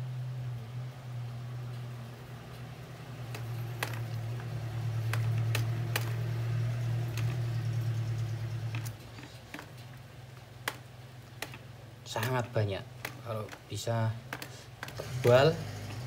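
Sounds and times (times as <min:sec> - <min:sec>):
steady low hum: 0:00.0 - 0:16.0
thread winding ticks and rustles: 0:01.6 - 0:16.0.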